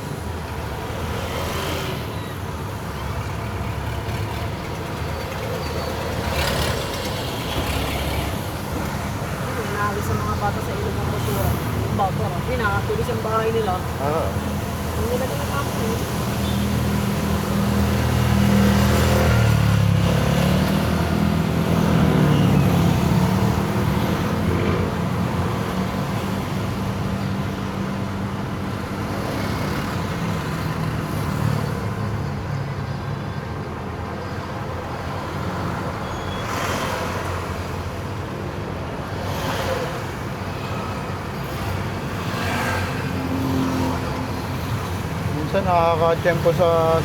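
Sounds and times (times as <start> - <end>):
steady road noise: 0.0 - 47.0
vehicles swishing past: 0.0 - 47.0.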